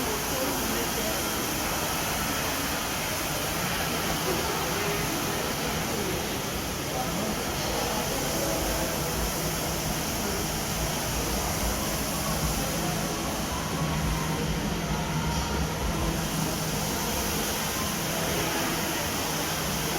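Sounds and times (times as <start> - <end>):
floor scrubber machine hum: 0.0 - 19.9
rushing noise: 0.0 - 19.9.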